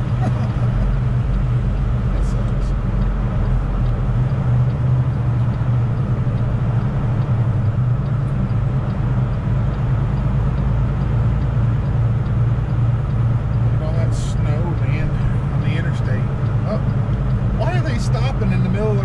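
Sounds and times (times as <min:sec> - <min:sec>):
low diesel drone: 0:00.0 - 0:19.0
road noise: 0:00.0 - 0:19.0.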